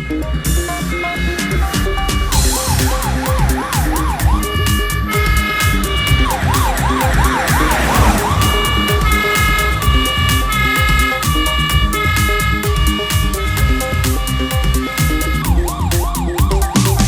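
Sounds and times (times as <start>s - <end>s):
electronic music with beat: 0.0s - 17.0s
electronic toy police siren: 2.1s - 17.0s.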